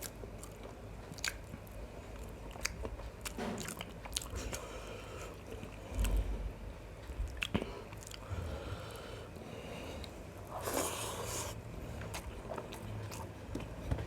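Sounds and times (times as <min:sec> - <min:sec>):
person chewing food: 0:00.0 - 0:06.4, 0:07.0 - 0:14.0.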